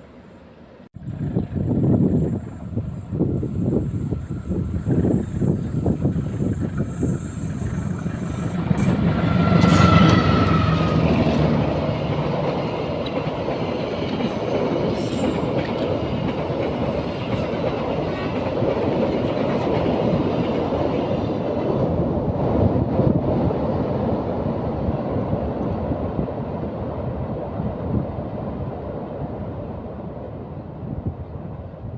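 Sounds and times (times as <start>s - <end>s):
train passing: 0.0s - 31.9s.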